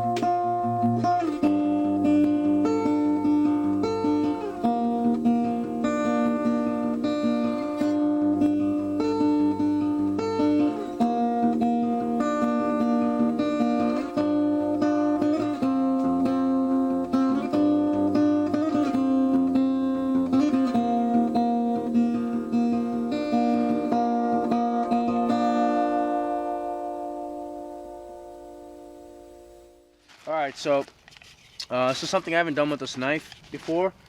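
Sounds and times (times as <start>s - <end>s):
strummed acoustic guitar: 0.0s - 30.8s.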